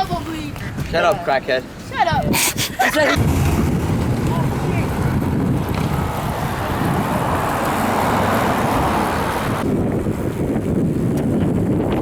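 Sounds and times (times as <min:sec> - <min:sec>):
road and traffic noise: 0:00.0 - 0:12.0
wind rumbling on microphone: 0:01.7 - 0:12.0.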